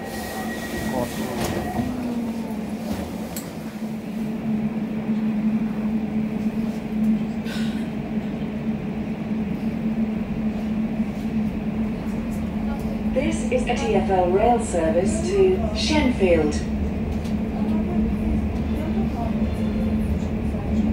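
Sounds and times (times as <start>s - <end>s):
train motor hum: 0.0s - 20.9s
train wheels rumbling on track: 0.0s - 20.9s.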